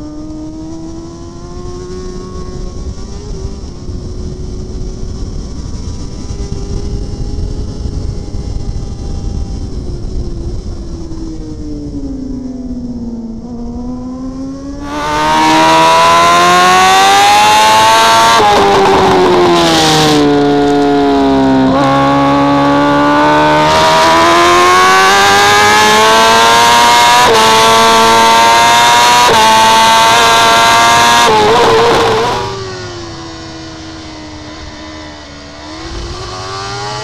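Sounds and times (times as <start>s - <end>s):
motorcycle engine at racing speed: 0.0s - 37.0s.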